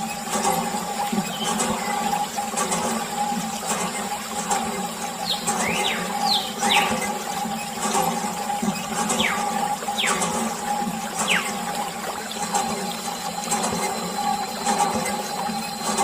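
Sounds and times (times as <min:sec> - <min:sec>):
water gushing and splashing: 0:00.0 - 0:16.0
water pump motor humming: 0:00.0 - 0:16.0.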